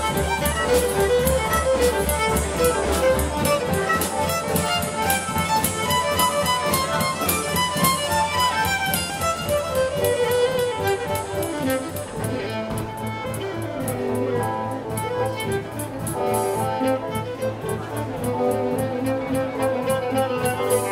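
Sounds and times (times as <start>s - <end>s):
fiddle-led dance band: 0.0s - 20.9s.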